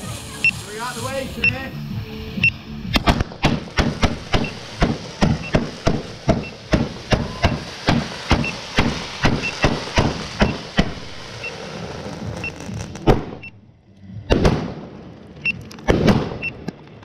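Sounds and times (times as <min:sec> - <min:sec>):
fireworks banging: 0:00.0 - 0:13.5, 0:14.2 - 0:17.0.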